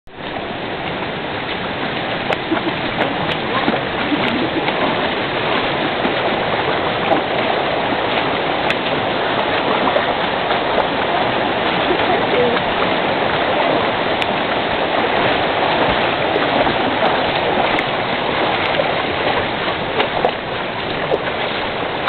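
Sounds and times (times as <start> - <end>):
boots splashing through shallow water: 0.1 - 22.0
creek water flowing: 0.1 - 22.0.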